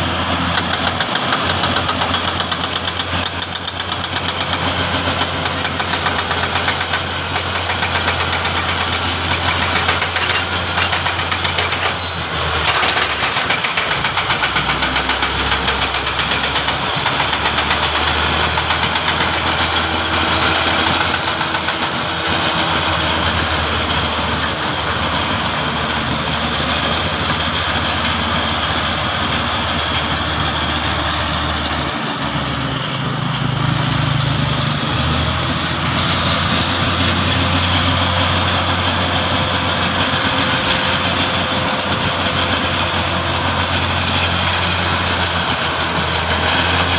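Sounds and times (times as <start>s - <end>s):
bulldozer diesel engine pulsing: 0.0s - 46.9s.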